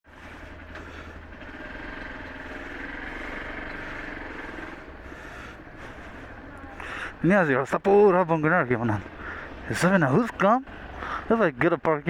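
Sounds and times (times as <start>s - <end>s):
motorcycle engine running: 0.0s - 11.3s
road and wind noise: 0.0s - 12.0s.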